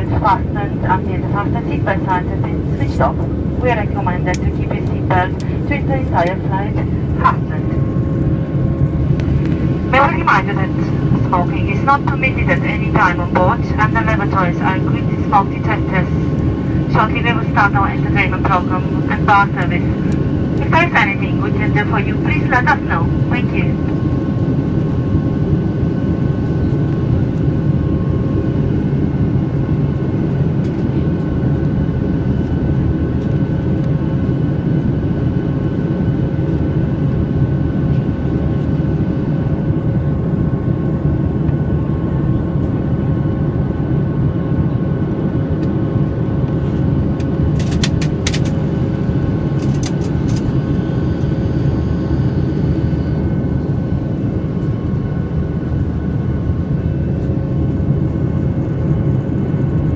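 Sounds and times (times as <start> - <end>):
faint steady hums: 0.0 - 59.9
jet engine and airflow rumble: 0.0 - 59.9.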